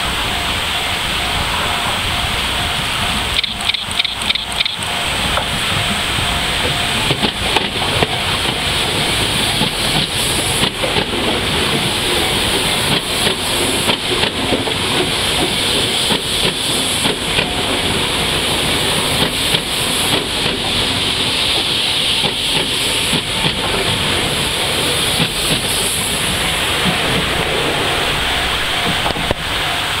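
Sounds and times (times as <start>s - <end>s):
steady train hiss: 0.0s - 30.0s
train wheels knocking over rail joints: 3.2s - 27.8s.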